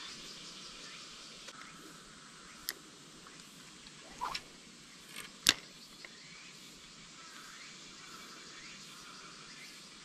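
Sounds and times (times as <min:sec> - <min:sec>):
faint chirps: 0:00.0 - 0:10.0
faint outdoor hiss: 0:00.0 - 0:10.0.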